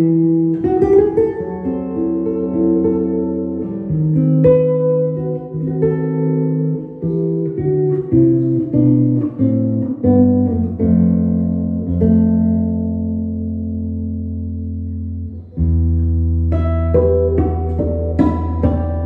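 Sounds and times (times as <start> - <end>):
synthesized guitar melody: 0.0 - 19.0.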